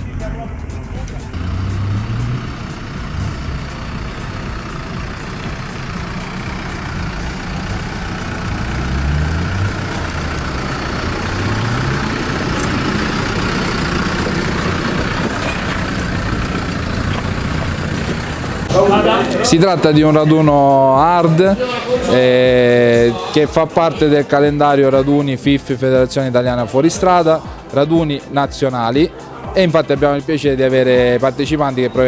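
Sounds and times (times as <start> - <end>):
off-road engines revving: 0.0 - 32.0.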